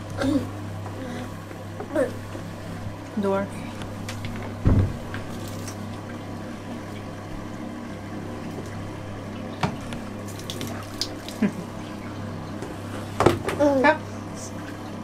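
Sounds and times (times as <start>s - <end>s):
shower water into bathtub: 0.0s - 15.0s.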